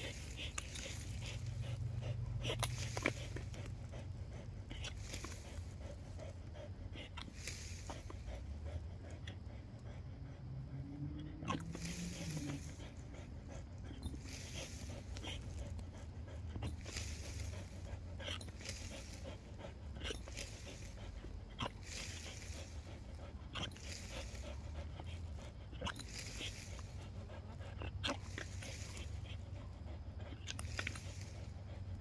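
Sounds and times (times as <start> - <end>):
dog panting: 0.0 - 32.0
steady low hum: 0.0 - 32.0.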